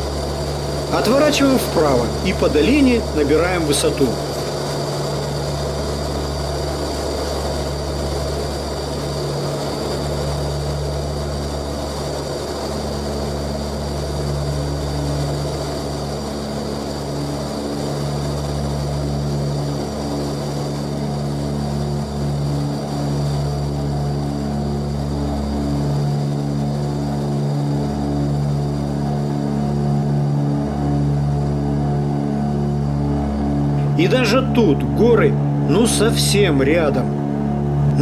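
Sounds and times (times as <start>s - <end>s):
high engine whine: 0.0s - 38.0s
turboprop propeller drone: 0.0s - 38.0s.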